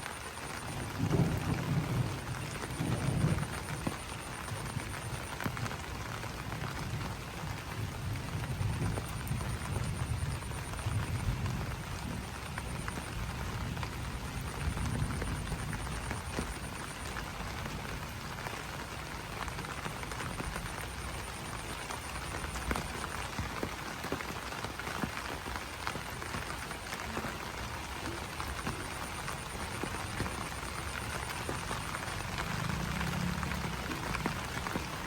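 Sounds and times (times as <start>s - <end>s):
rain pattering on leaves: 0.0s - 35.0s
raindrops tapping sharply: 0.0s - 35.0s.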